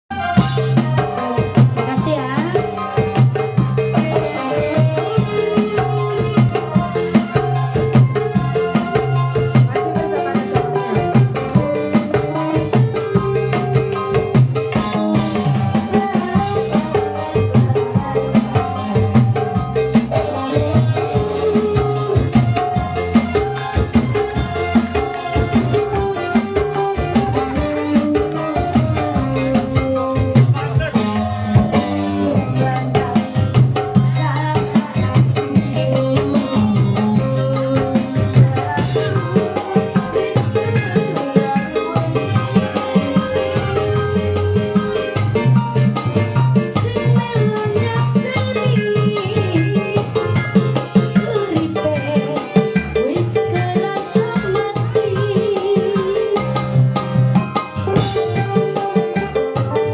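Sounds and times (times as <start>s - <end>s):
electronic keyboard melody: 0.1s - 59.9s
hand drum rhythm: 0.1s - 59.9s.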